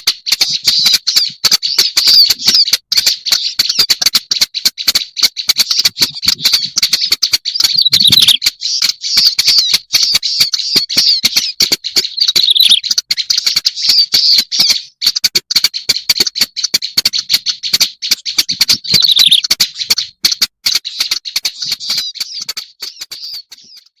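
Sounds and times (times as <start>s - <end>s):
warbler song harsh chattering: 0.0s - 24.0s.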